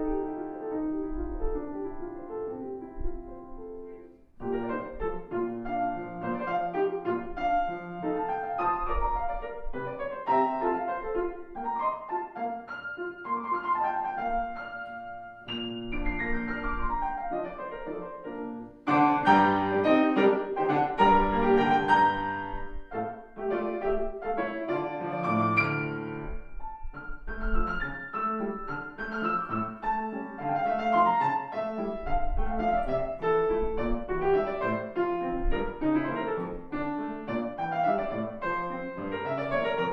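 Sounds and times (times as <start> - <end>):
solo classical piano: 0.0 - 39.9.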